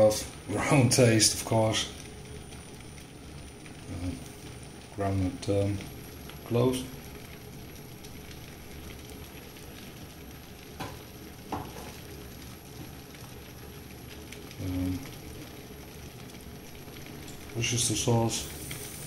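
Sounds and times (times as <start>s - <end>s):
soup boiling and bubbling: 0.0s - 19.0s.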